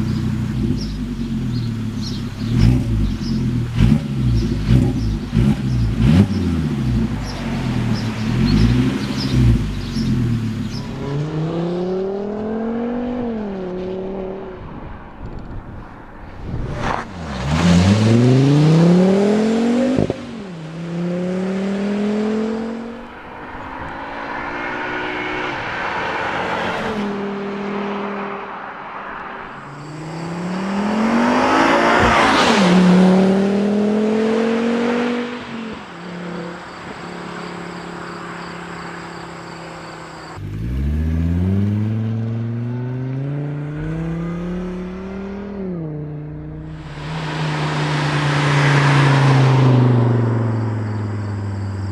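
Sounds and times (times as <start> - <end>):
car engine accelerating hard: 0.0 - 15.6, 16.8 - 51.9.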